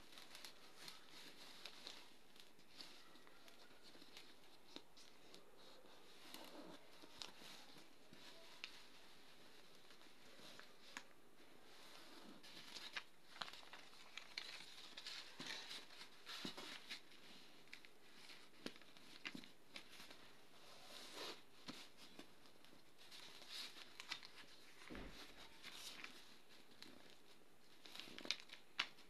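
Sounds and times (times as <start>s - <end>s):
paper rustling and crinkling: 0.0s - 29.0s.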